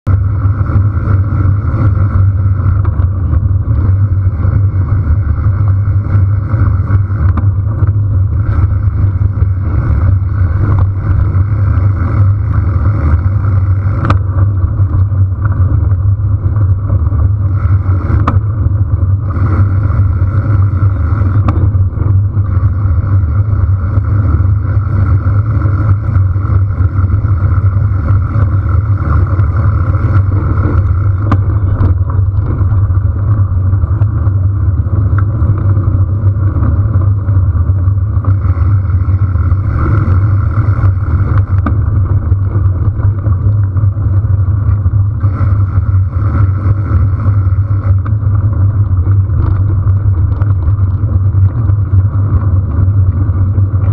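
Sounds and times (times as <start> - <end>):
bike clicks from bumps: 0.1 - 53.9
wind buffeting microphone: 0.1 - 53.9.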